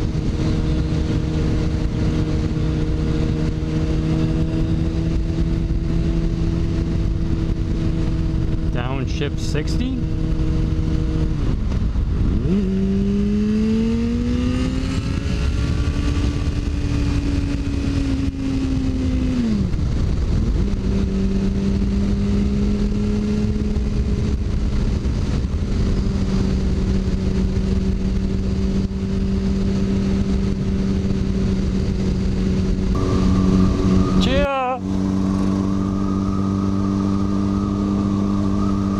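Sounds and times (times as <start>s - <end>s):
motorcycle engine accelerating: 0.0s - 38.9s
wind rushing over microphone: 0.0s - 38.9s.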